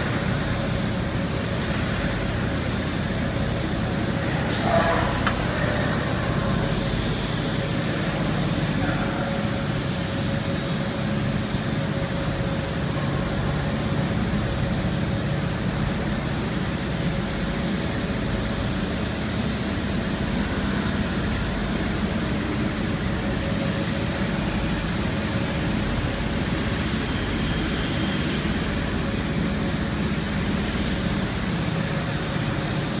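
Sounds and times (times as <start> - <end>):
woodworking machine hum and whine: 0.0 - 33.0.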